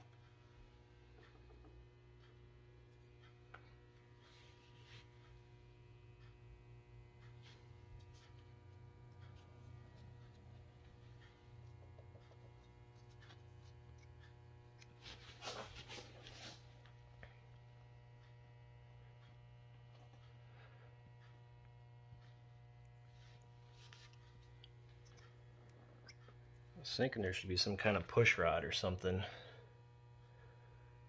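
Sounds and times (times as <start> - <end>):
low hum: 0.0 - 28.2.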